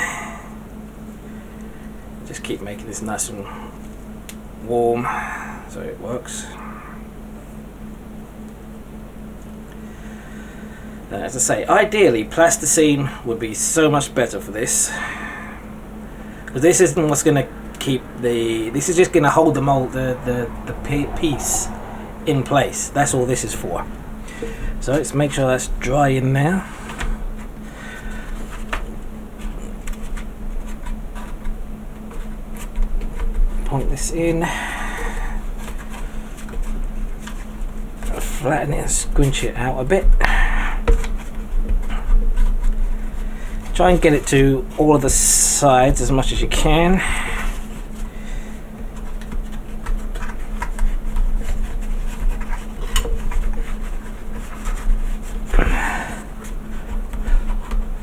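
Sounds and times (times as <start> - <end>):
low electrical buzz: 0.0 - 58.0
steady low hum: 0.0 - 58.0.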